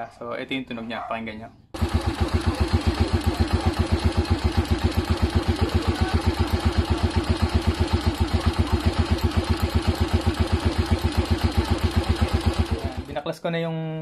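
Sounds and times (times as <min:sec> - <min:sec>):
motorcycle engine idling: 0:01.8 - 0:13.2.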